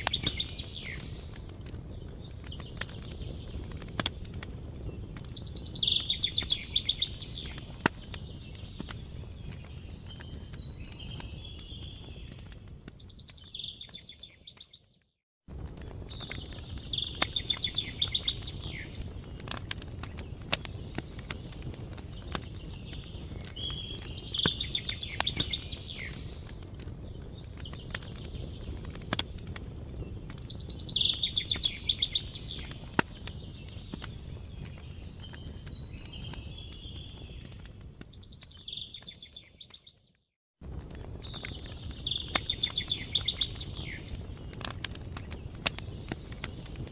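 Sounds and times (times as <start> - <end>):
songbird singing trills: 0.0 - 3.6, 4.8 - 14.9, 16.1 - 29.4, 30.0 - 40.1, 41.2 - 46.8
campfire crackling and popping: 0.0 - 46.9.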